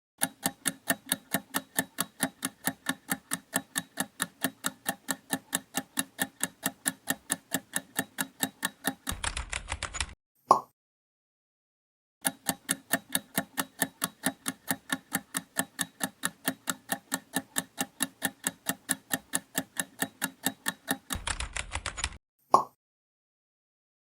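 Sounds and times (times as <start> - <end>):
timer ticking: 0.2 - 10.2, 12.2 - 22.2.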